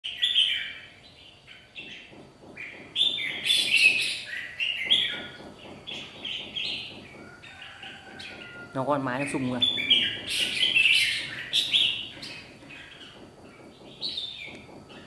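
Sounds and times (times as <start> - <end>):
birds chattering calls: 0.1 - 15.0.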